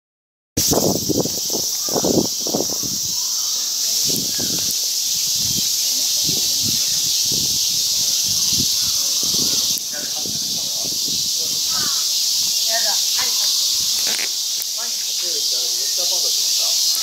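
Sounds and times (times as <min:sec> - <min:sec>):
cicadas hissing: 0:00.6 - 0:17.0
distant voices murmuring: 0:01.4 - 0:17.0.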